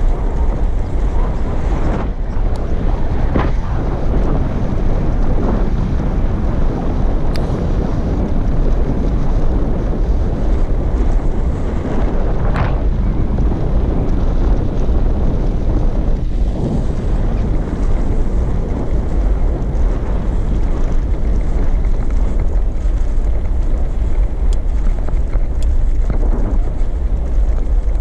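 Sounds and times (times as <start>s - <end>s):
bicycle tyres rumbling over paving: 0.0s - 28.0s
wind buffeting microphone: 0.0s - 28.0s.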